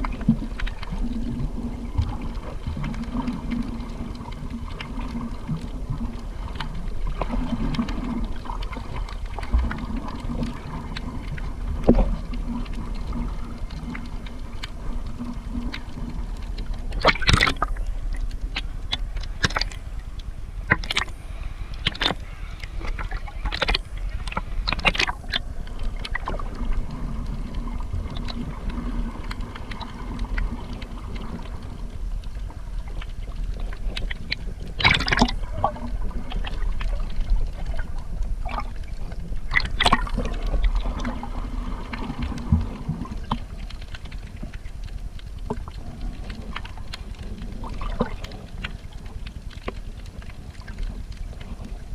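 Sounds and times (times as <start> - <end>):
boat engine hum: 0.0 - 46.0.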